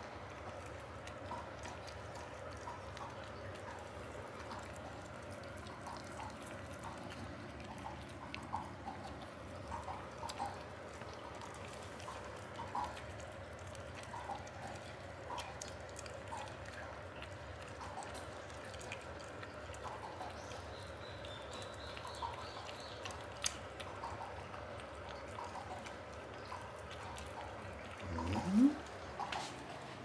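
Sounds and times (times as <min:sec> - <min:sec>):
kittens chewing wet food: 0:00.0 - 0:30.0.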